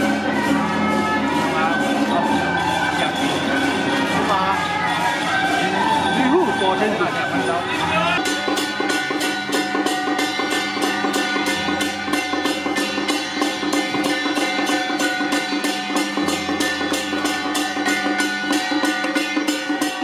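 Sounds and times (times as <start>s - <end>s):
sharp percussion strokes: 0.0s - 20.0s
sustained melody notes: 0.0s - 20.0s.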